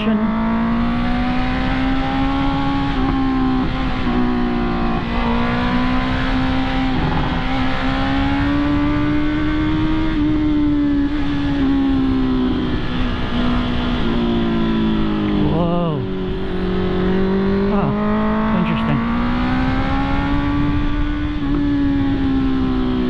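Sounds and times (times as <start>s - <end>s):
motorcycle engine running: 0.0s - 23.0s
wind rushing on microphone: 0.2s - 23.0s.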